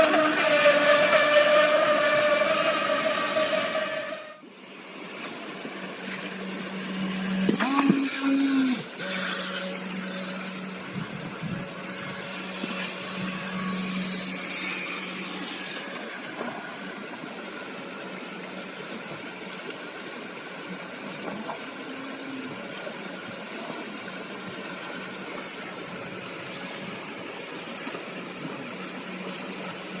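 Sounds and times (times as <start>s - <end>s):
toy boat electric motor humming: 0.0s - 30.0s
water rushing and splashing: 0.0s - 30.0s.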